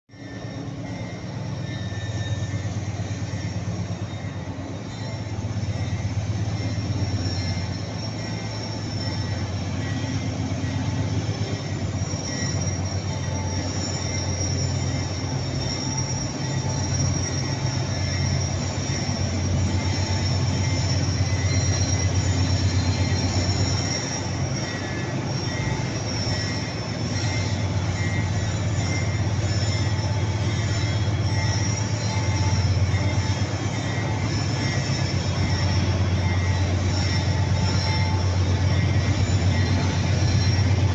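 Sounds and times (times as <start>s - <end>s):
high wheel squeal: 0.1s - 40.9s
locomotive engine droning: 0.1s - 40.9s.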